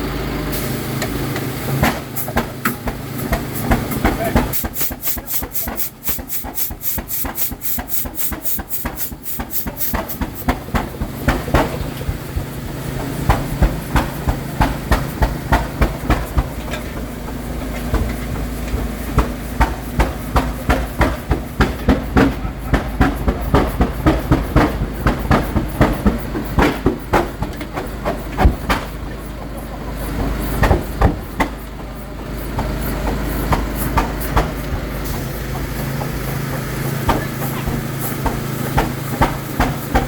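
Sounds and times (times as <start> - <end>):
engine hissing pulses: 0.0 - 40.0
heavy engine knocking: 0.0 - 40.0
low engine rumble: 0.0 - 40.0.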